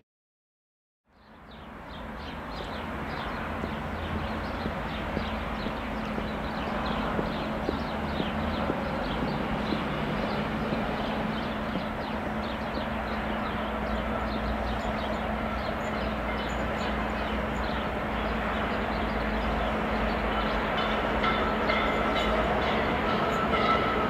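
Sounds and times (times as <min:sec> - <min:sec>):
steam locomotive rumble: 0:02.8 - 0:24.0.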